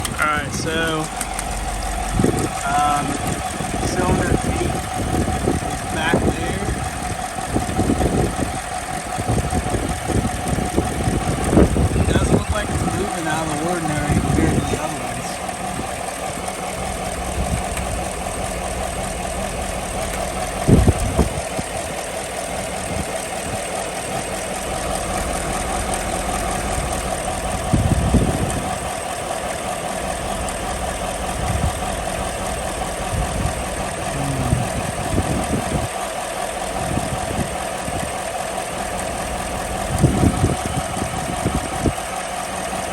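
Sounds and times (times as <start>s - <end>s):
engine idling with misfire thumps: 0.0s - 42.9s.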